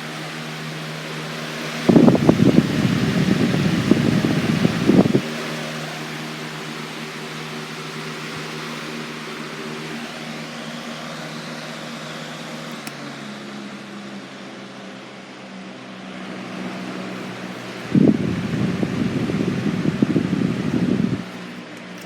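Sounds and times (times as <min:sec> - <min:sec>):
box fan running: 0:00.0 - 0:22.0.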